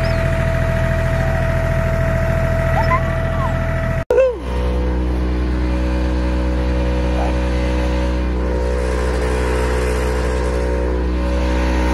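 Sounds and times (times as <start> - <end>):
tractor diesel engine idling: 0.0 - 11.9.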